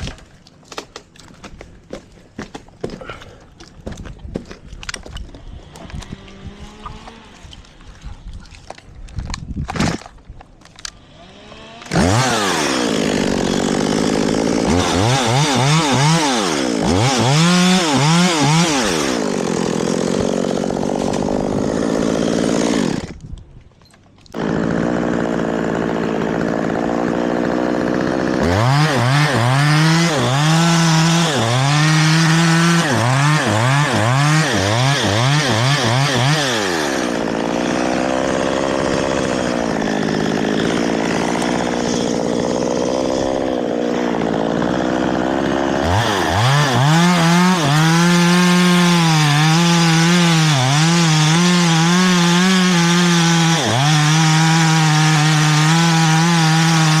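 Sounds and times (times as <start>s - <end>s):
chainsaw engine revving: 5.4s - 7.8s, 10.8s - 23.2s, 24.3s - 57.0s.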